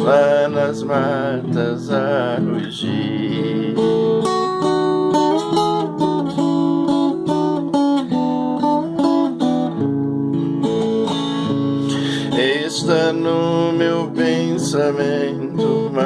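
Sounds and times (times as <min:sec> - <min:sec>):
plucked guitar melody: 0:00.0 - 0:16.0
strummed accompaniment: 0:00.0 - 0:16.0.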